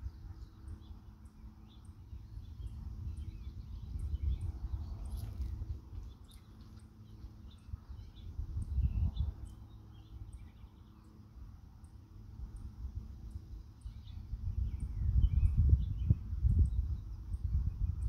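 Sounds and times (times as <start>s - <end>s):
birds chirping: 0.0s - 18.0s
wind rumbling on microphone: 0.0s - 18.0s.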